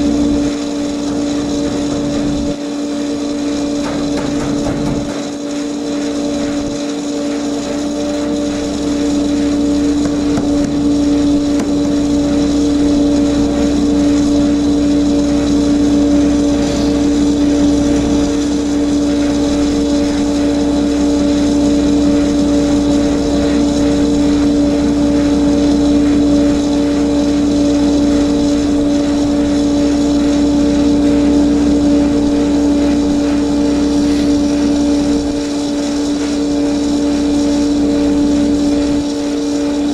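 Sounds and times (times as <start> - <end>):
auger machine droning: 0.0 - 39.9.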